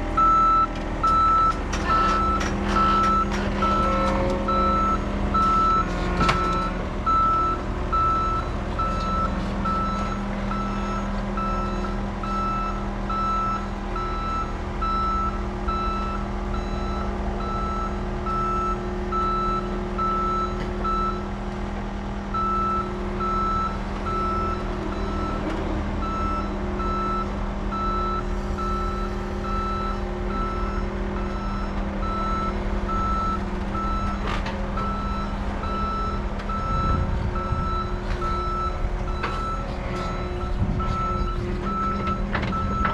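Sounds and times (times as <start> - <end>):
diesel engine running: 0.0 - 42.9
backup alarm beeping: 0.2 - 21.2, 26.0 - 42.9.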